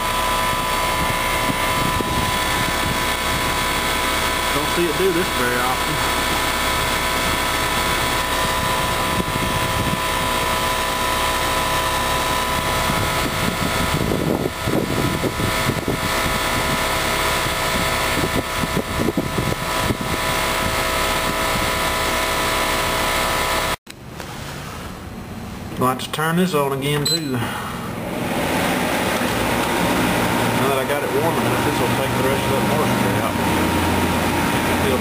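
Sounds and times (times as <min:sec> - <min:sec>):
heat pump compressor and fan humming: 0:00.0 - 0:35.0.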